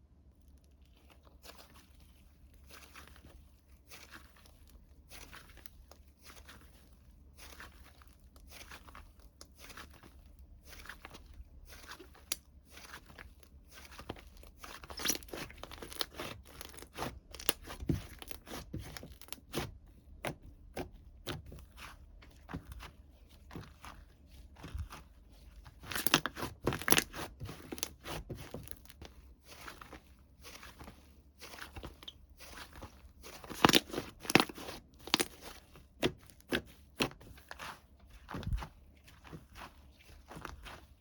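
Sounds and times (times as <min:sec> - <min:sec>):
hands crinkling and tearing material: 0:00.2 - 0:41.0.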